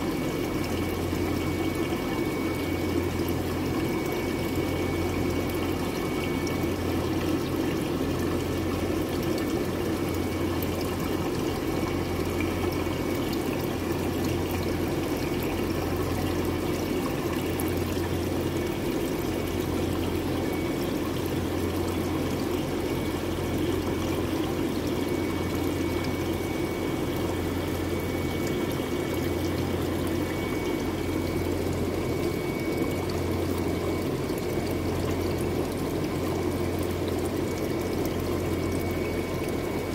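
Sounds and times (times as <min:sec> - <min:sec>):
pump hum: 0:00.0 - 0:39.9
water pouring into tank: 0:00.0 - 0:39.9.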